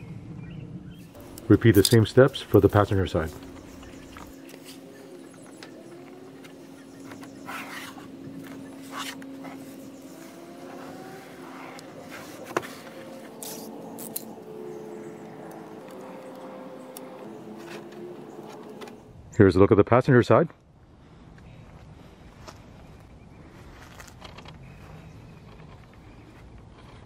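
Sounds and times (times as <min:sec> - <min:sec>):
vehicle hum: 0:00.0 - 0:19.5, 0:20.6 - 0:27.0.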